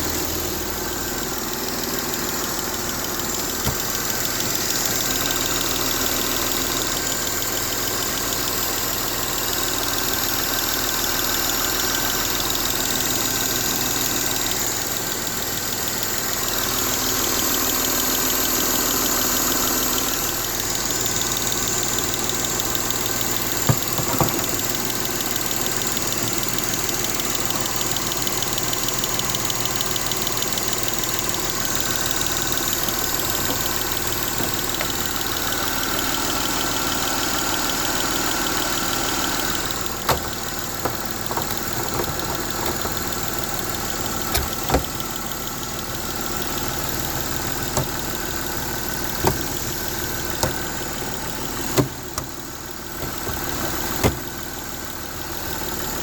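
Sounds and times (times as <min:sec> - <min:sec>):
engine running with ticking: 0:00.0 - 0:56.0.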